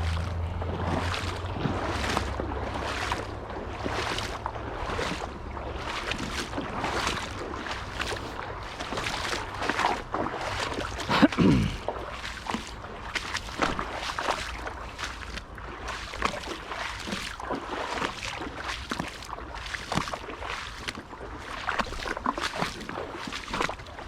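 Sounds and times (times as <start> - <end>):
wading through shallow water: 0.0 - 24.0.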